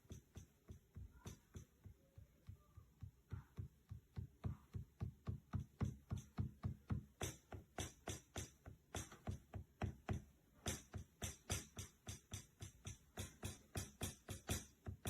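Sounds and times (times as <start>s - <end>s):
electronic kick drum thumps: 2.5s - 15.0s.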